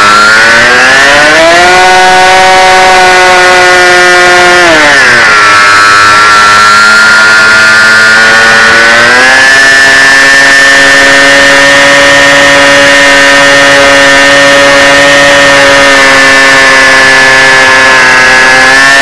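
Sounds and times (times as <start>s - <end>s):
electric motor and propeller: 0.0s - 19.0s.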